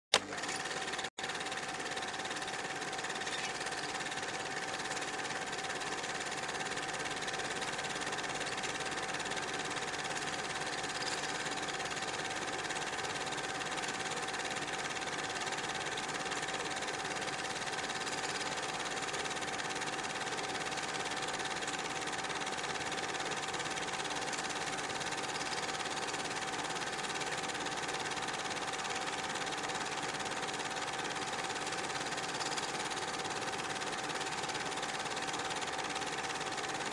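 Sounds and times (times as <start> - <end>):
film projector whirring: 0.1 - 36.9.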